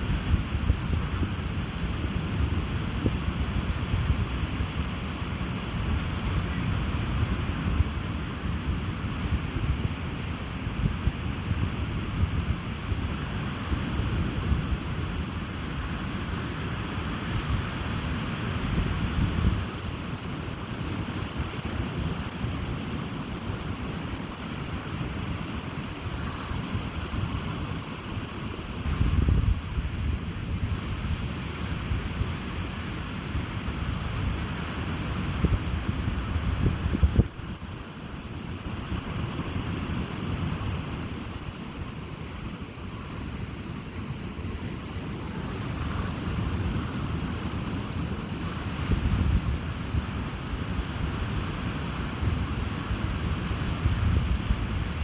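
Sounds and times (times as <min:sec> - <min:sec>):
ocean surf washing on beach: 0:00.0 - 0:55.0
wind buffeting microphone: 0:00.0 - 0:55.0.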